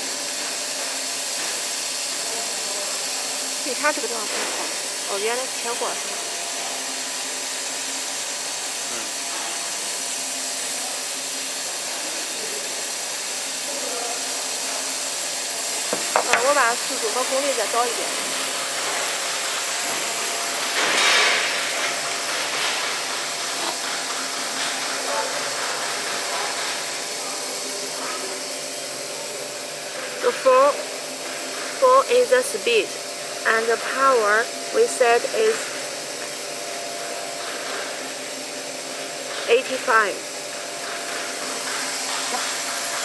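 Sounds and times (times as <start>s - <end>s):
laser cutter fans whirring: 0.0s - 43.0s.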